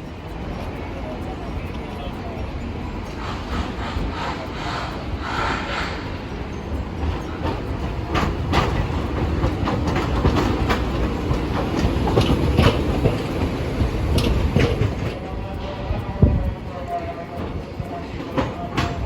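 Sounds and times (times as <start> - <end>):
streetcar rumble: 0.0 - 19.0
wheels clacking over rail joints: 0.0 - 19.0.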